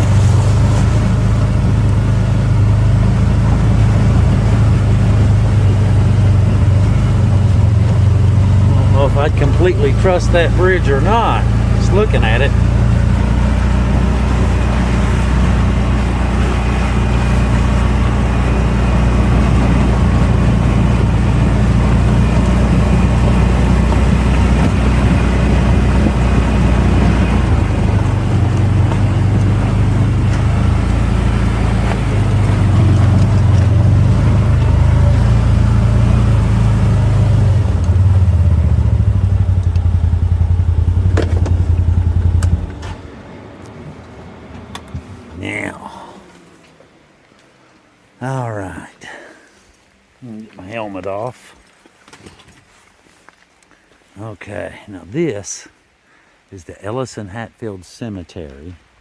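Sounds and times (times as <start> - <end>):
off-road vehicle engine running: 0.0 - 48.9.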